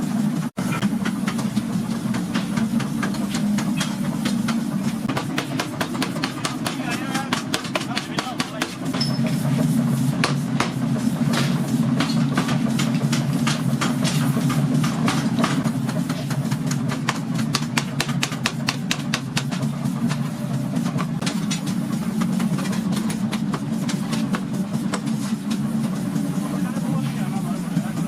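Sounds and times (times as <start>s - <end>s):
low machine hum: 0.0s - 28.0s
metal forging blows: 0.6s - 25.6s.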